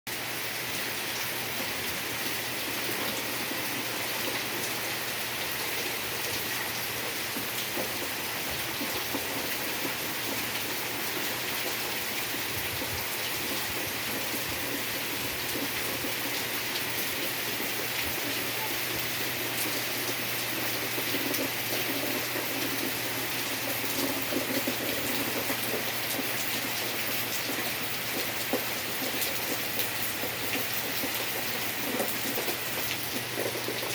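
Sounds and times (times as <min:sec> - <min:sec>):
raindrops pattering on surfaces: 0:00.1 - 0:33.9.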